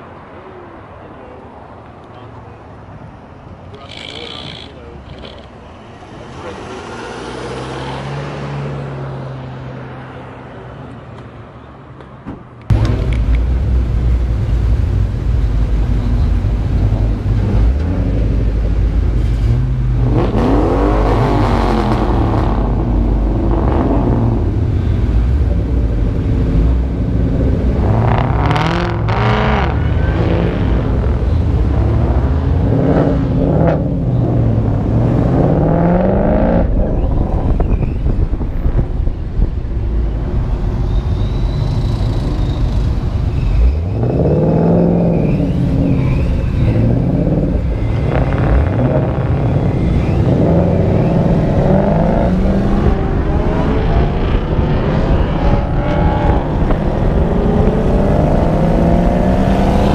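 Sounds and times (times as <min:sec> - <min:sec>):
low engine and road rumble: 0:00.0 - 0:59.9
car engines revving: 0:02.4 - 0:11.3, 0:12.5 - 0:59.9.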